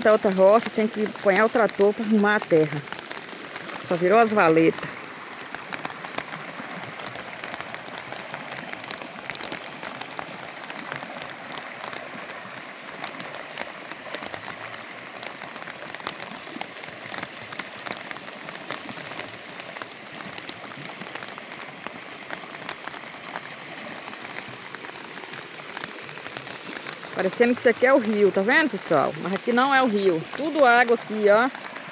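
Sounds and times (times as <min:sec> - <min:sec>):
creek rushing: 0:00.0 - 0:31.9
heavy rain: 0:00.0 - 0:31.9.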